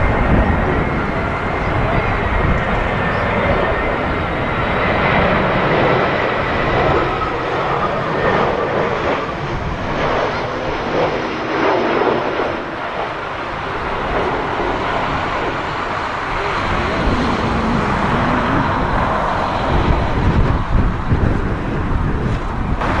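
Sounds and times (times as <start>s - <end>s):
jet engines rushing: 0.0s - 23.0s
wind buffeting microphone: 0.0s - 23.0s.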